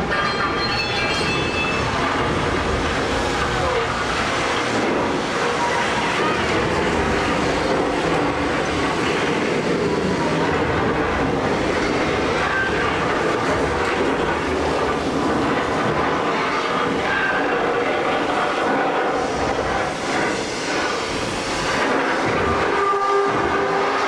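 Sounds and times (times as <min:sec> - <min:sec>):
train rolling on track: 0:00.0 - 0:24.0.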